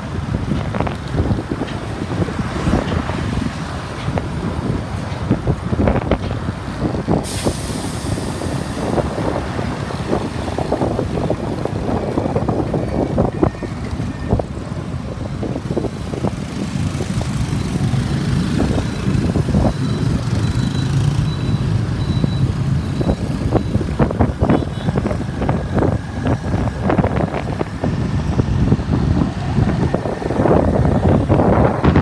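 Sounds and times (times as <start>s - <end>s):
low rumble of engines: 0.0s - 32.0s
wind buffeting microphone: 0.0s - 32.0s.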